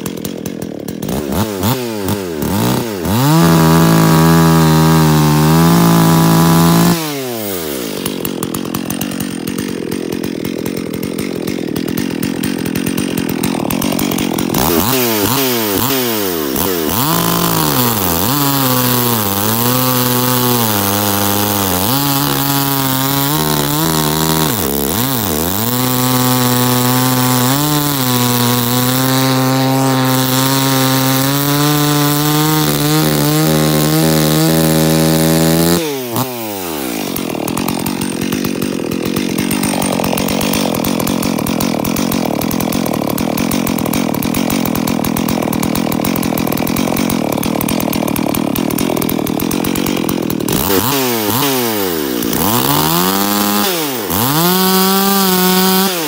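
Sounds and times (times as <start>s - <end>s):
chainsaw revving and cutting log: 0.0s - 56.0s.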